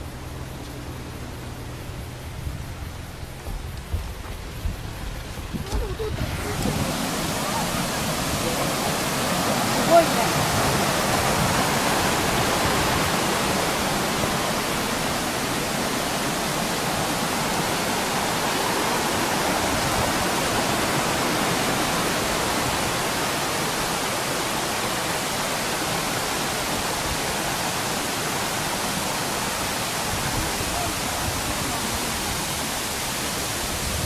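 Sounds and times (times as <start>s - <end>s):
stream rushing over rocks: 2.9s - 34.0s.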